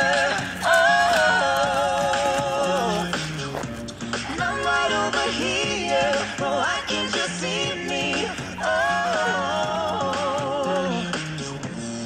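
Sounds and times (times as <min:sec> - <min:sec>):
a cappella vocal harmonies: 0:00.0 - 0:12.0.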